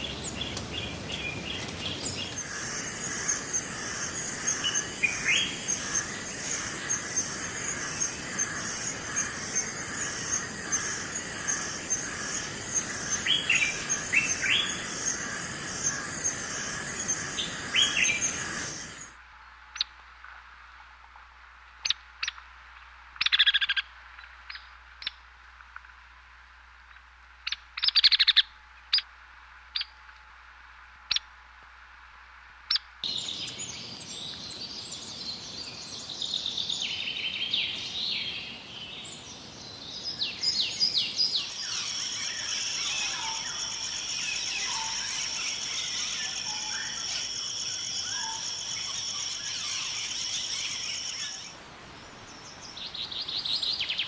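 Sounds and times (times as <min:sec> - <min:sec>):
forest birds calling: 0:00.0 - 0:19.9, 0:23.2 - 0:25.2, 0:26.9 - 0:29.1, 0:32.7 - 0:54.0.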